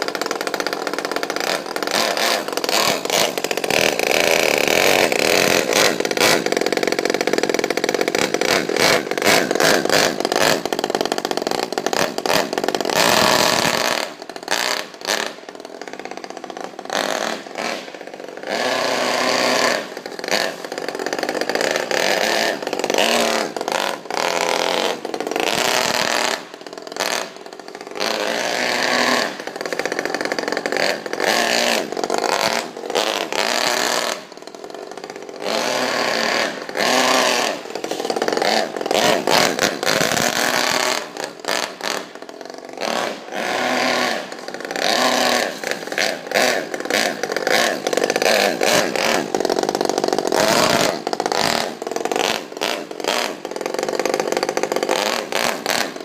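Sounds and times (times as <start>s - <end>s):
model car engine revving: 0.0s - 56.0s.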